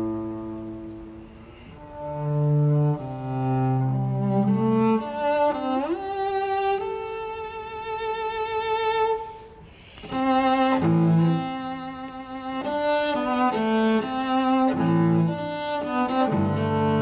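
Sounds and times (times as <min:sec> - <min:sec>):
bowed string instruments: 0:00.0 - 0:17.0.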